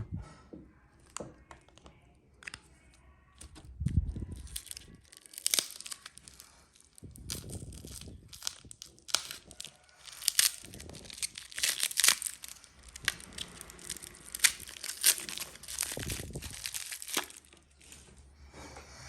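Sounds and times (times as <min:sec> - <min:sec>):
wrapping crinkling: 0:02.4 - 0:18.1.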